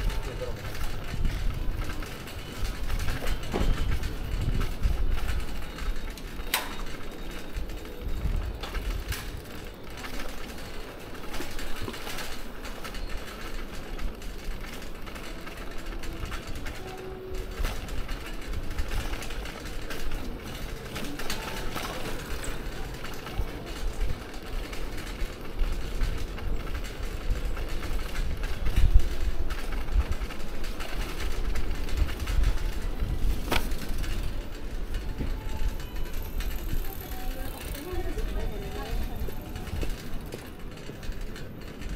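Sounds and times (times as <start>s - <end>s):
bicycle basket rattling: 0.0s - 41.9s
tyres rolling on brick paving: 0.0s - 41.9s.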